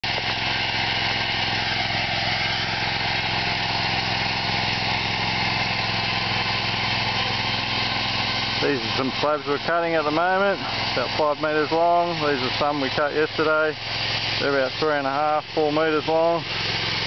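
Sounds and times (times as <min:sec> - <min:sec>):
saw engine running: 0:00.0 - 0:17.0.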